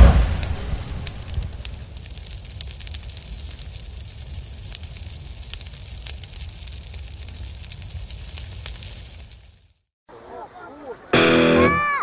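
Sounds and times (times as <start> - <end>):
flames rumbling and crackling: 0.0 - 9.9.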